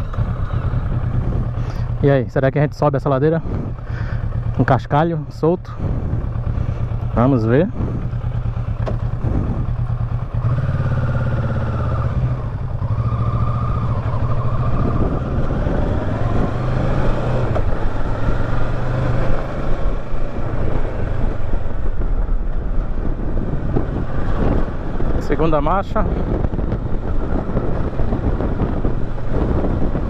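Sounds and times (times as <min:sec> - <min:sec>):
motorcycle engine climbing: 0:00.0 - 0:30.0.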